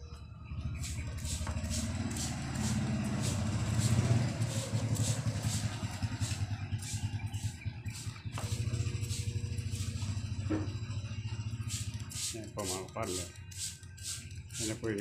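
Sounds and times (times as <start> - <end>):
low engine rumble: 0.0 - 15.0
spray bottle spritzing: 0.8 - 10.1, 11.6 - 15.0.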